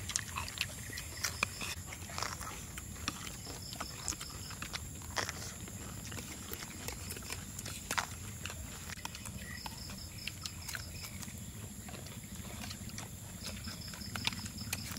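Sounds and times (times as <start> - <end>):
chewing and lip-smacking: 0.0 - 14.9
insects trilling: 0.0 - 14.9.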